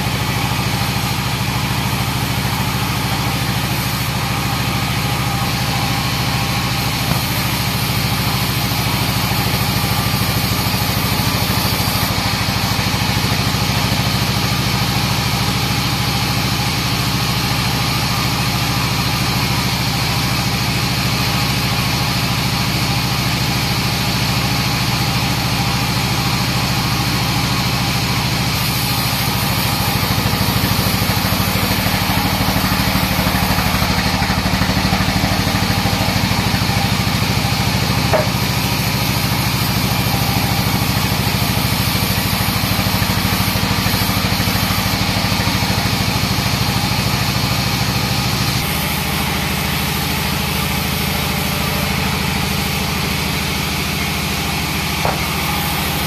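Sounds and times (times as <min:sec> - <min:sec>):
bandsaw mill sawing log: 0:00.0 - 0:56.0.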